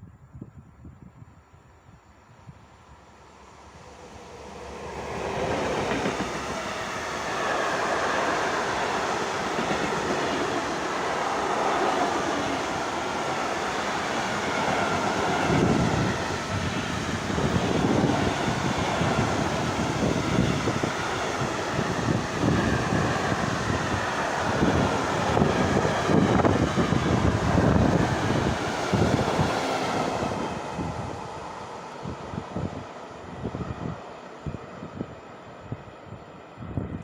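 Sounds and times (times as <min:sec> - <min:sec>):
train wheels rumbling on rails: 0:03.8 - 0:35.0.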